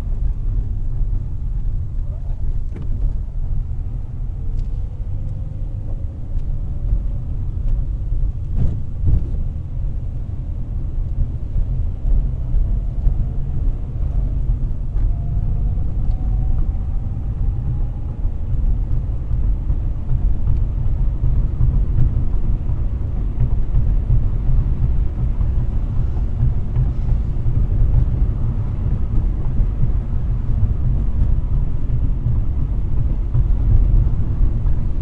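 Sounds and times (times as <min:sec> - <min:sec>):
road and wind noise: 0:00.0 - 0:35.0.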